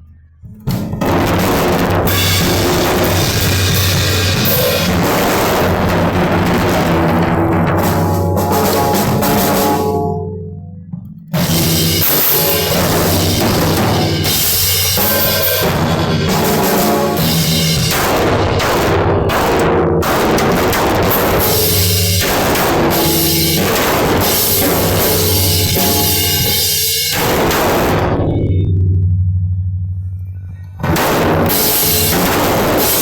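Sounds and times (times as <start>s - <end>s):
drum kit solo: 0.5s - 28.8s, 30.8s - 33.0s
cymbals ringing: 0.6s - 18.7s, 21.0s - 33.0s.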